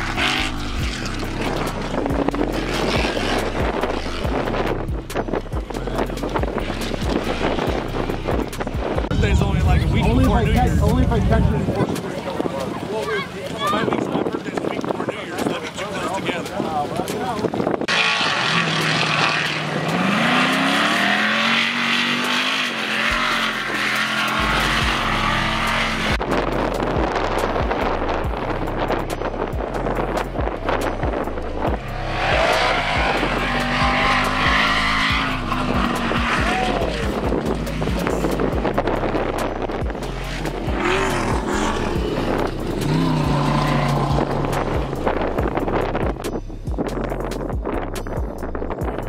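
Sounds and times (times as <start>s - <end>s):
race car engine revving: 0.0s - 12.0s, 17.8s - 46.3s
background music with beat and bass: 0.0s - 13.7s, 18.7s - 49.0s.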